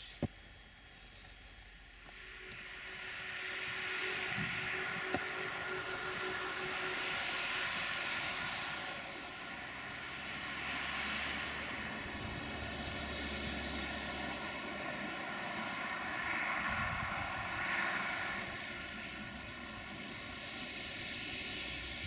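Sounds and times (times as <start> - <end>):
diesel locomotive engine: 0.0 - 22.0
high whistling whine: 0.0 - 22.0.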